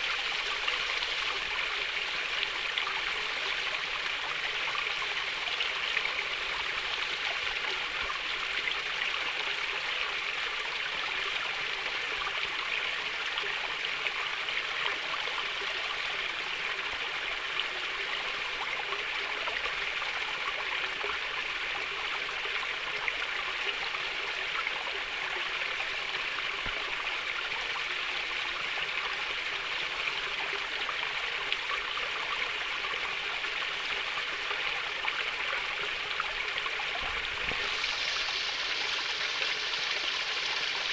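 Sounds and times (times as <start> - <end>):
water babbling over stones: 0.0 - 40.9.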